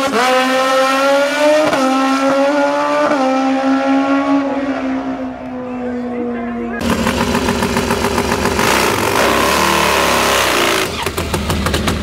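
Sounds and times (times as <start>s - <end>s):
drag car engine at full throttle: 0.0s - 5.6s, 6.8s - 12.0s.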